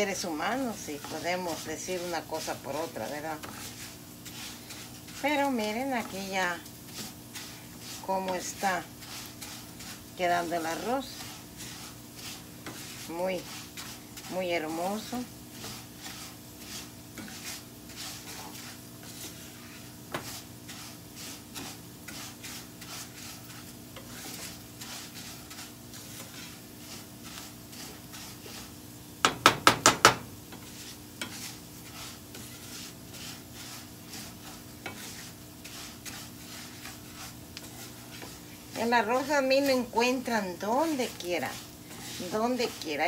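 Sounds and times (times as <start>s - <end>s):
light sizzle: 0.0s - 43.0s
rice scraping in frying pan: 0.0s - 43.0s.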